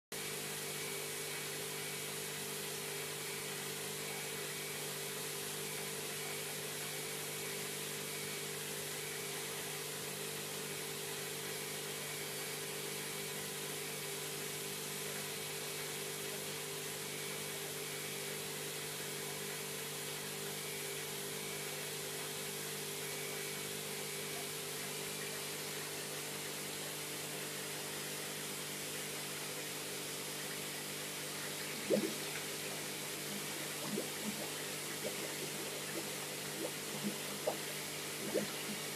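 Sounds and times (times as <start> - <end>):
aquarium pump humming: 0.2 - 38.9.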